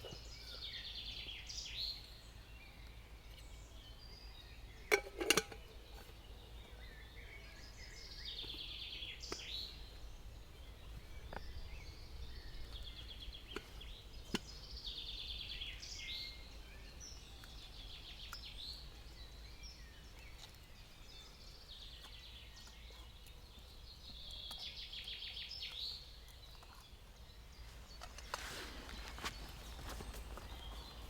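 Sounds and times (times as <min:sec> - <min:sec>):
faint forest ambience: 0:00.0 - 0:31.0.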